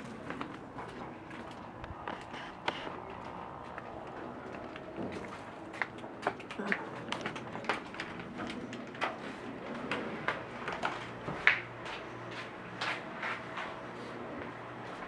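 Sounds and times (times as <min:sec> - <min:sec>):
footsteps walking: 0:00.0 - 0:15.0.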